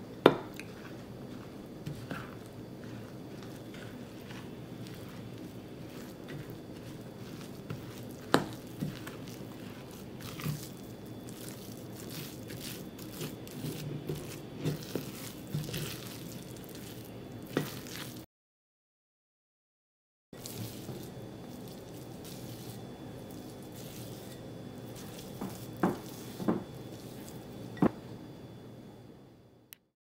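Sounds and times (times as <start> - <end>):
fork stirring crunchy dough: 0.4 - 18.2, 20.4 - 27.8.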